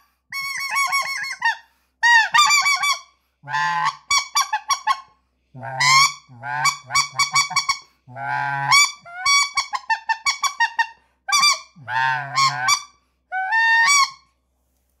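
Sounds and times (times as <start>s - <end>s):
goose call honks: 0.4s - 5.0s, 5.6s - 14.2s.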